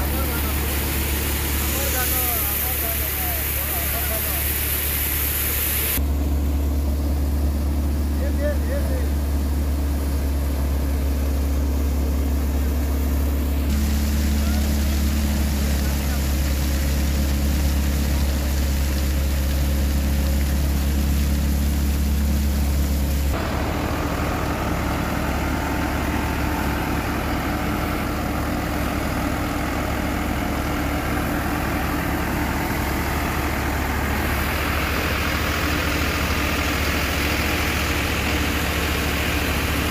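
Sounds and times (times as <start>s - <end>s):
grain thresher whirring: 0.0s - 39.9s
tractor diesel engine: 0.0s - 39.9s.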